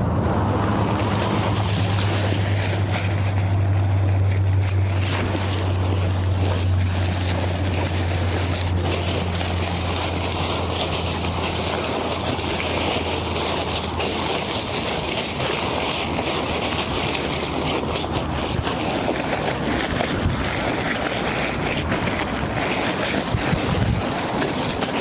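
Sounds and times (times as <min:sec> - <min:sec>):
wind blowing across microphone: 0:00.0 - 0:25.0.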